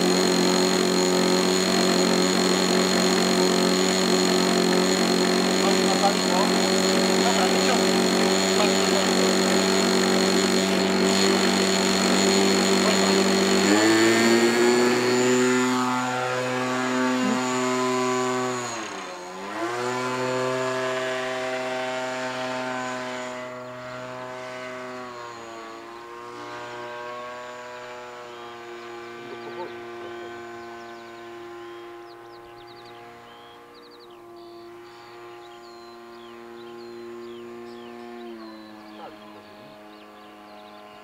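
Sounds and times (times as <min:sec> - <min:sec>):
model airplane engine buzzing: 0:00.0 - 0:41.0.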